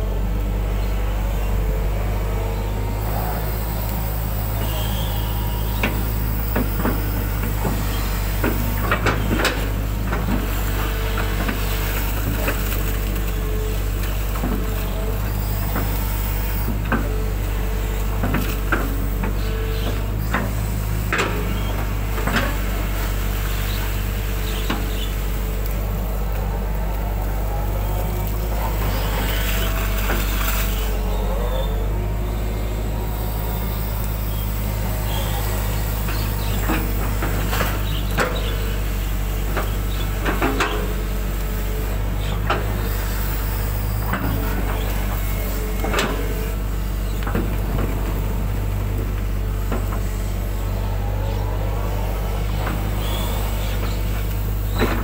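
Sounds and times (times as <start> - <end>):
excavator diesel engine running: 0.0 - 55.0
hydraulics whining: 0.0 - 55.0.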